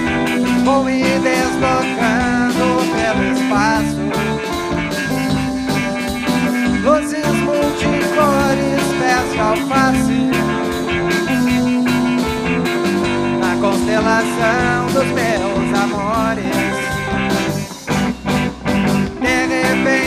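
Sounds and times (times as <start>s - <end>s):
guitar lead with bent notes: 0.0s - 20.0s
live rock band playing: 0.0s - 20.0s.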